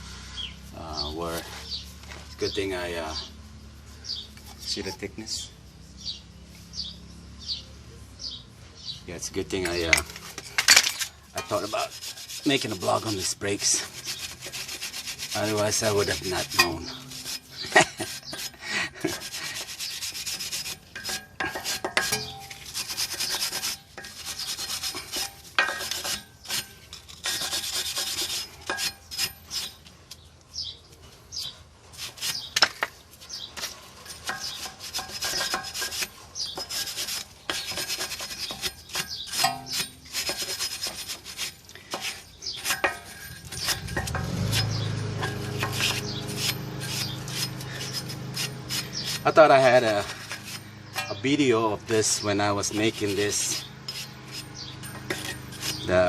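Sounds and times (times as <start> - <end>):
scrubbing on metal brake parts: 9.2 - 56.0.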